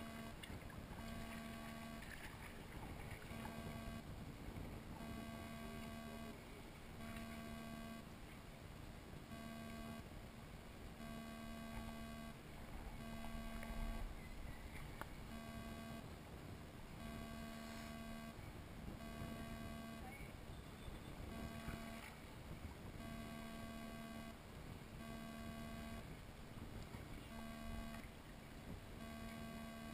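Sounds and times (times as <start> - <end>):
faint buzzing tone: 0.0 - 29.9
low background noise: 0.0 - 29.9.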